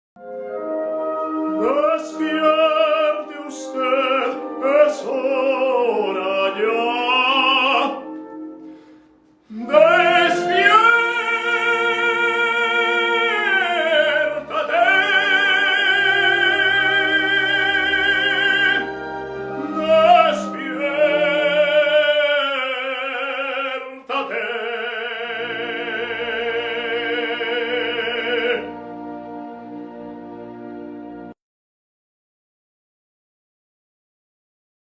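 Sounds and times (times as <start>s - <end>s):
musical accompaniment: 0.2s - 31.4s
operatic singing: 0.5s - 30.6s.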